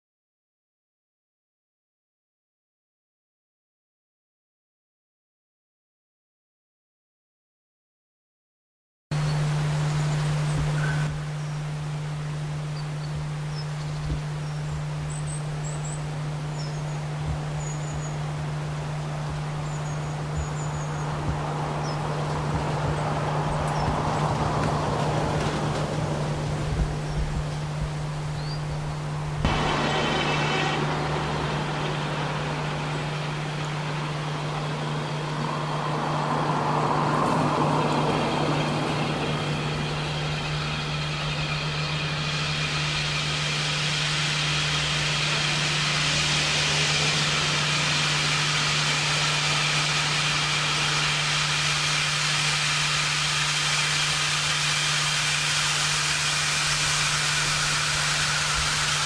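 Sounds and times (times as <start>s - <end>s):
steam locomotive approaching: 9.2s - 59.0s
steam hiss: 9.7s - 59.0s.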